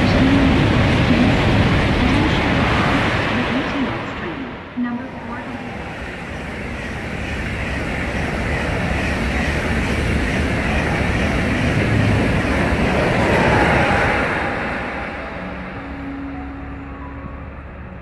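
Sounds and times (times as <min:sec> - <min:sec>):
high-speed train passing: 0:00.0 - 0:18.0.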